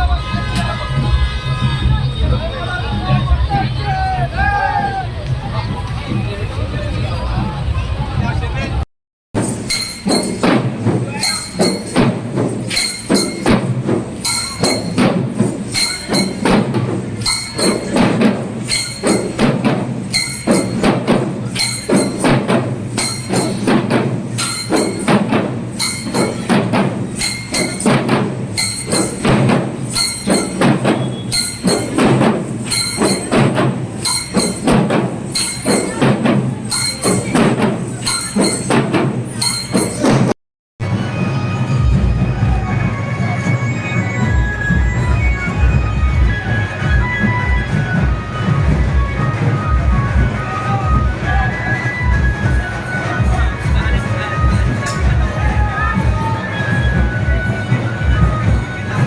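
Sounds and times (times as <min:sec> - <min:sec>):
fast procession drumming: 0:09.4 - 0:59.0.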